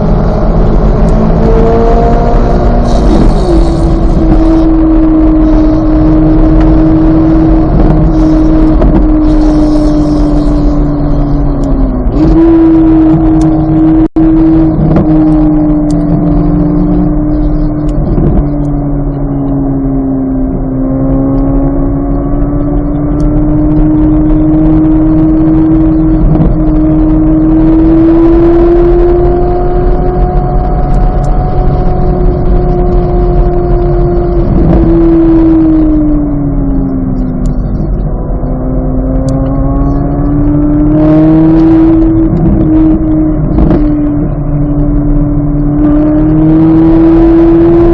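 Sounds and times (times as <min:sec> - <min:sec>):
car engine at high revs: 0:00.0 - 0:47.9.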